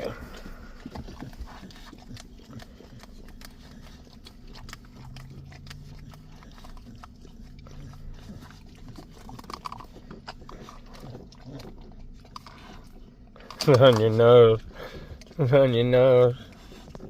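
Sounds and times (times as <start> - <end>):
dog grunting: 0.0 - 17.0
puppy licking and lapping: 0.0 - 17.0.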